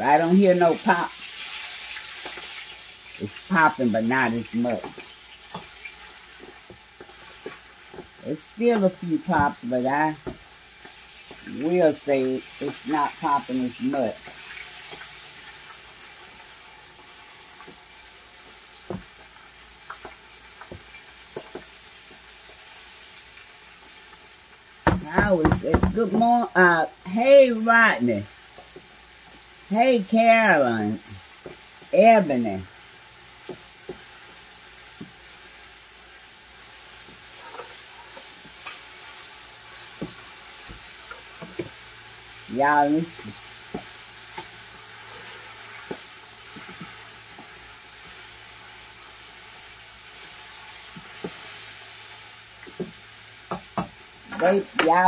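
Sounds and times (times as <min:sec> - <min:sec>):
deep-frying sizzle: 0:00.0 - 0:55.0.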